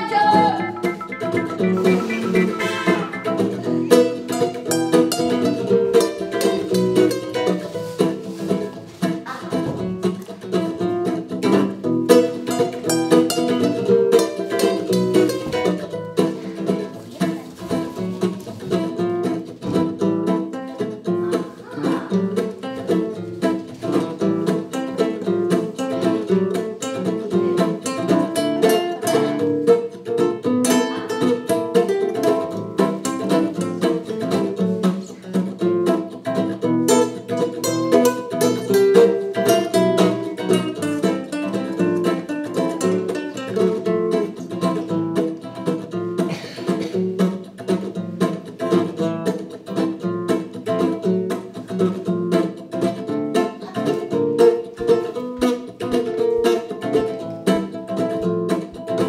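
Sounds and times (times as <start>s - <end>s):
plucked acoustic guitar: 0.0s - 59.0s.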